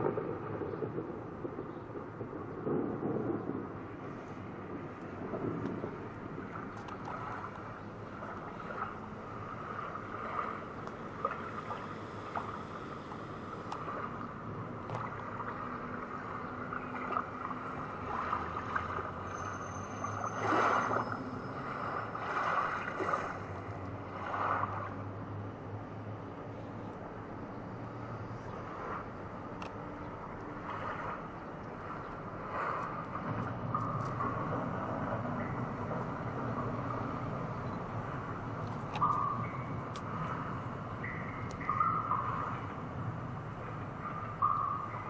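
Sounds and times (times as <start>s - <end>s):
water sounds through speakers: 0.0s - 45.0s.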